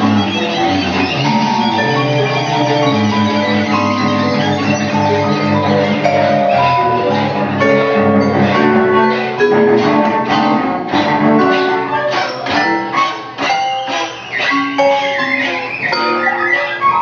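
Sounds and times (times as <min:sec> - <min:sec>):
string trio playing: 0:00.0 - 0:17.0.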